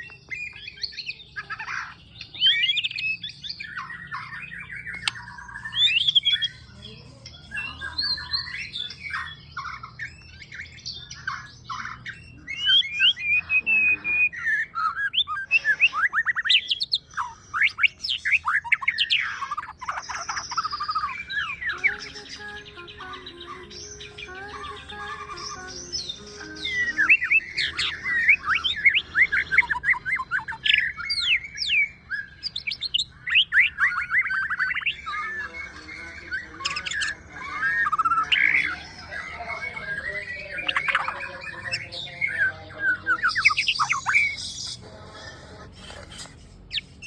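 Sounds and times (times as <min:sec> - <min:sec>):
bird singing whistles and trills: 0:00.0 - 0:44.8.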